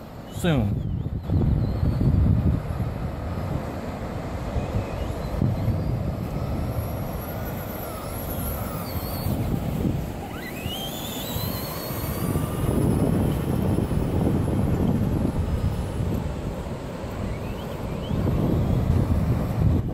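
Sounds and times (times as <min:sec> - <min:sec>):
wind noise on microphone: 0:00.0 - 0:19.9
electric motor whine: 0:00.9 - 0:19.9.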